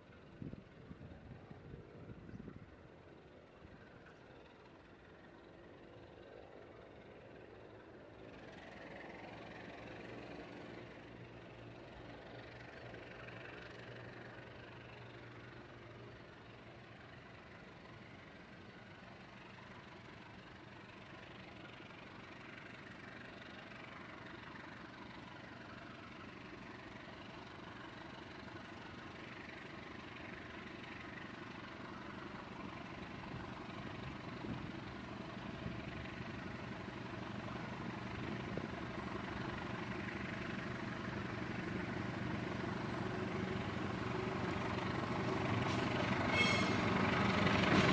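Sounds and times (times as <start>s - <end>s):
locomotive diesel engine droning: 0.0s - 47.9s.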